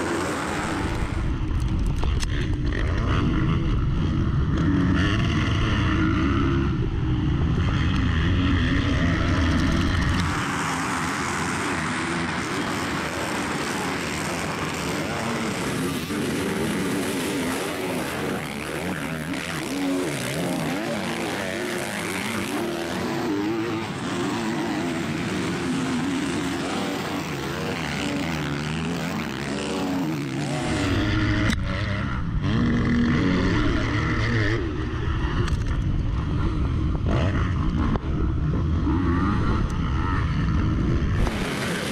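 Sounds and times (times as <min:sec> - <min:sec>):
distant motorbikes: 0:00.0 - 0:41.9
motocross engines revving: 0:00.0 - 0:41.9.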